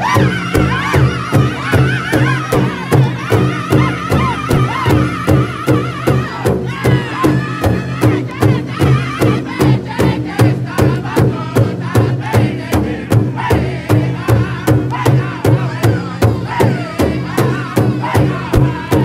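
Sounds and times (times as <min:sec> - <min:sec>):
large drum beating fast: 0:00.0 - 0:19.0
men singing together: 0:00.0 - 0:19.0.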